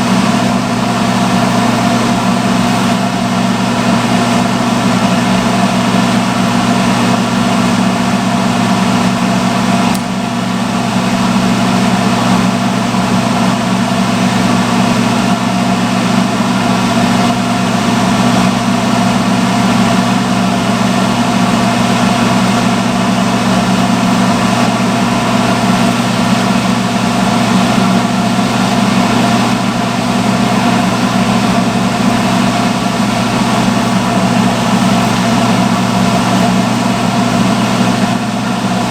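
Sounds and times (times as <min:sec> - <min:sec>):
hair dryer motor hum: 0:00.0 - 0:38.9.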